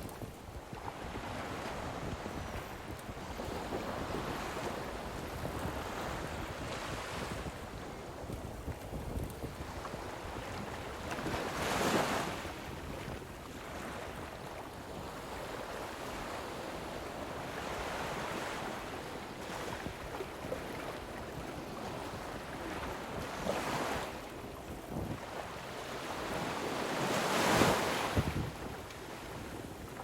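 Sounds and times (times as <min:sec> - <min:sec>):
waves washing against shore: 0:00.0 - 0:30.0
wind buffeting microphone: 0:00.0 - 0:30.0.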